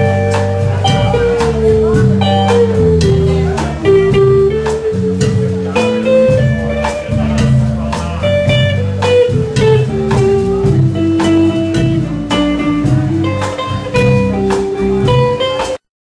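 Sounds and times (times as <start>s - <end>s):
live blues band playing: 0.0s - 15.8s.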